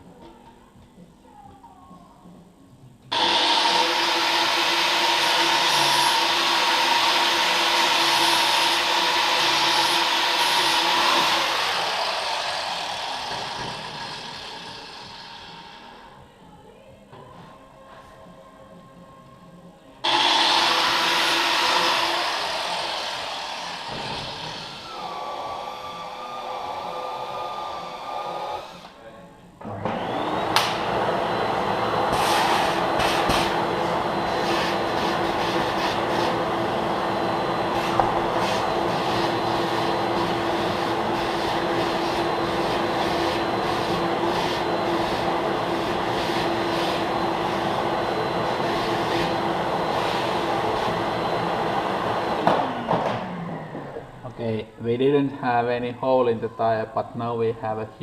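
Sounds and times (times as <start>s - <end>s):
pneumatic grinder whining: 3.1s - 16.1s, 20.0s - 29.0s, 29.6s - 54.3s.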